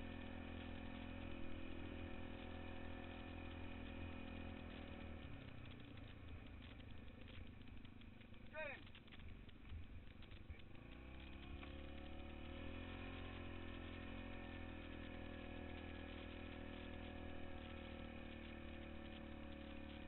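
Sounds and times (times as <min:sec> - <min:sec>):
quad bike engine revving: 0:00.0 - 0:09.2, 0:10.2 - 0:20.0.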